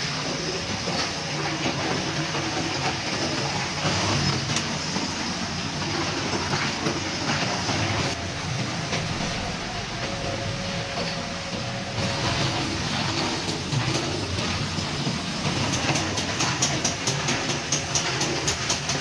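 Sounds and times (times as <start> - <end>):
rumbling machine with hiss: 0.0 - 19.0.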